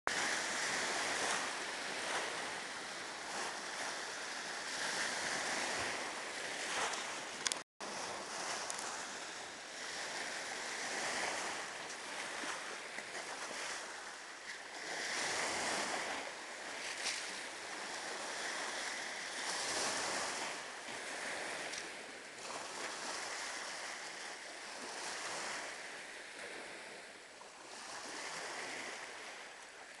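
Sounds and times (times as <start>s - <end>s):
lake waves washing on shore: 0.1s - 30.0s.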